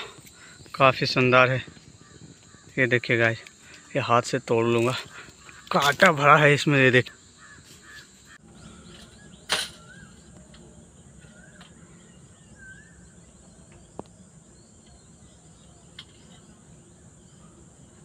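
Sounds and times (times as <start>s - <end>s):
bird chirping: 0.0s - 18.0s
insect drone: 0.0s - 18.0s.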